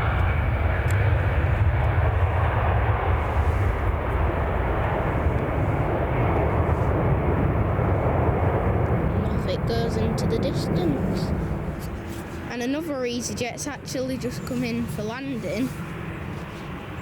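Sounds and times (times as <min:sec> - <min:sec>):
jet engines rumbling at takeoff: 0:00.0 - 0:17.0.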